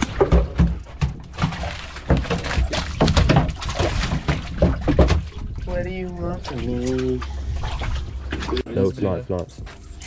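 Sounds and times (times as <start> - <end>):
fish thrashing on boat deck: 0.0 - 8.7.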